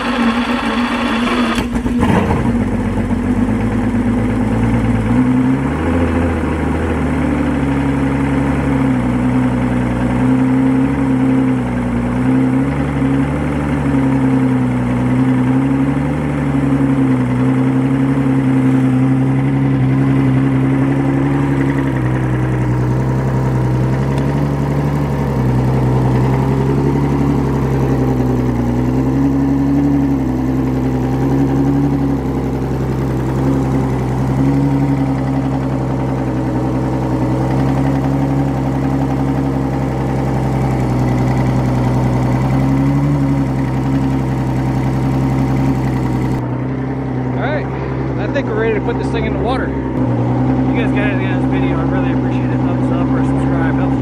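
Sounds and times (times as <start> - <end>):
outboard motor idling: 0.0 - 54.0.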